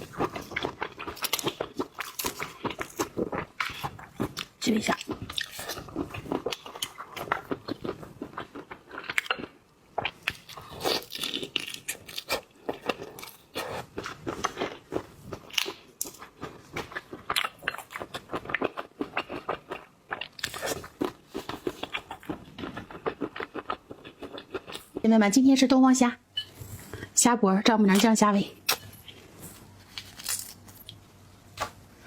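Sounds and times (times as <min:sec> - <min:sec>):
crunching bites and chewing: 0:00.0 - 0:24.9, 0:29.8 - 0:31.0.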